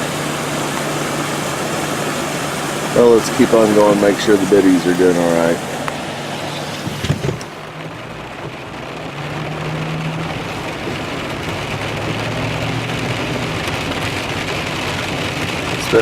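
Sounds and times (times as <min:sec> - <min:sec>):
rain hissing: 0:00.0 - 0:16.0
vehicle engine hum: 0:00.0 - 0:16.0.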